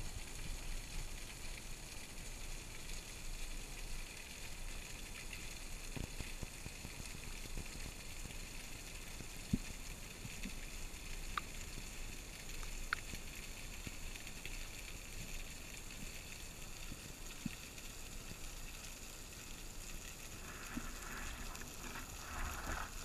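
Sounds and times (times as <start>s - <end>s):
underwater hiss with crackle: 0.0s - 23.0s.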